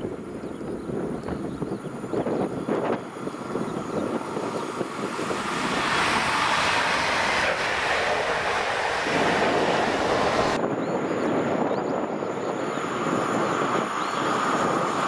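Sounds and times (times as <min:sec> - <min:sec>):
wind buffeting microphone: 0:00.0 - 0:15.0
train wheels rushing on rails: 0:01.9 - 0:15.0.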